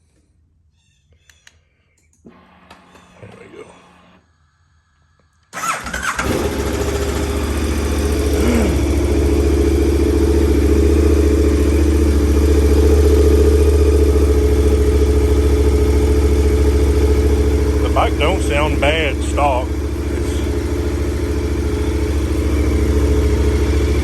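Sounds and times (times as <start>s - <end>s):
motorcycle engine starting and idling: 2.2s - 4.0s, 5.5s - 24.0s.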